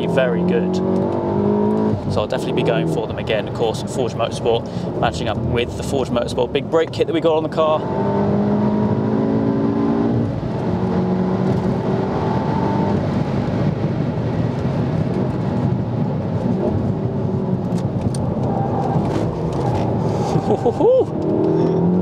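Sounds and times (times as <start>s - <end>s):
car engine running hard: 0.0s - 22.0s.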